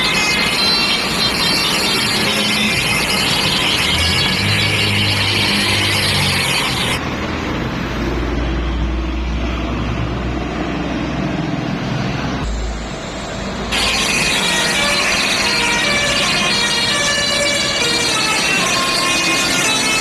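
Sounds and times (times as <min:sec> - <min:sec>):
heavy vehicle engine rumble: 0:00.0 - 0:20.0
hissy road noise: 0:00.0 - 0:20.0
traffic noise: 0:00.0 - 0:20.0.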